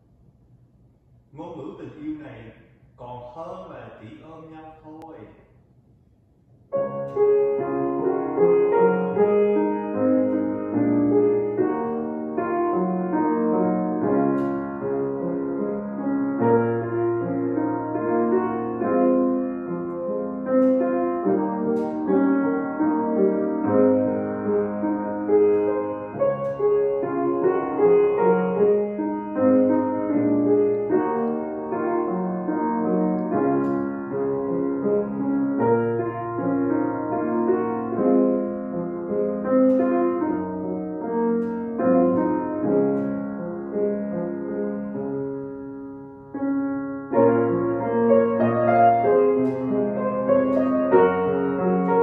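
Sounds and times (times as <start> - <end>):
grand piano solo piece: 6.7 - 52.0.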